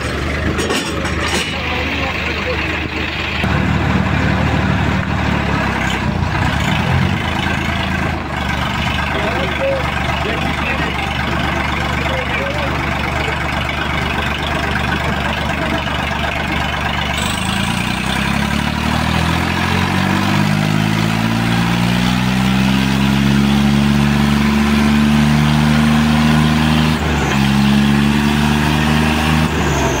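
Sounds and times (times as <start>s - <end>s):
diesel tractor engine revving: 0.0s - 30.0s.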